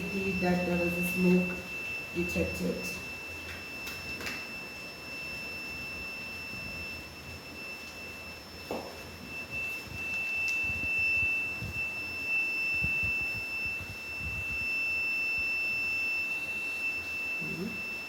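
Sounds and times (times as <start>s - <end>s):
high-pitched electronic buzzer tone: 0.0s - 18.0s.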